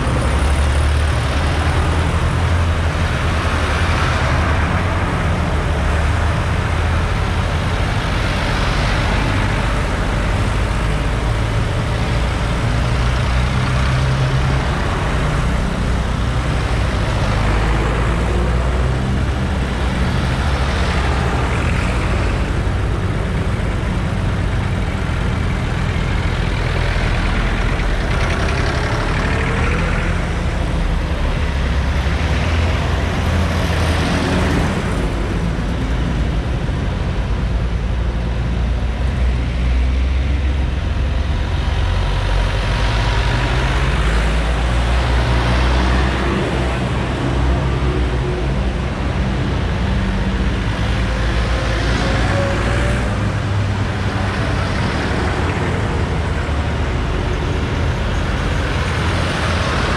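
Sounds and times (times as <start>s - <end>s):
tractors driving past: 0.0s - 59.9s.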